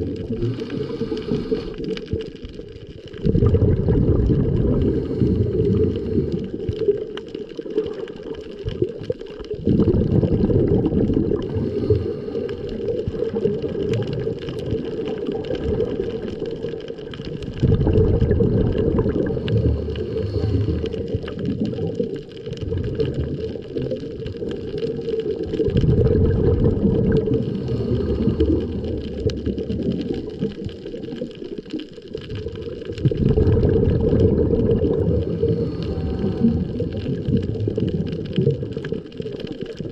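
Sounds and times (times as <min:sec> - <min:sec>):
muffled underwater sloshing: 0:00.0 - 0:39.9.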